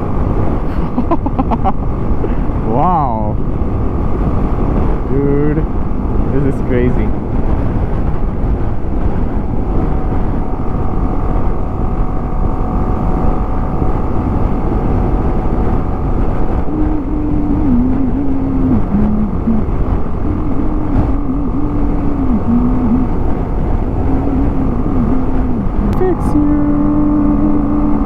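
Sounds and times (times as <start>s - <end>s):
motorcycle engine running: 0.0s - 28.0s
wind rush on microphone: 0.0s - 28.0s.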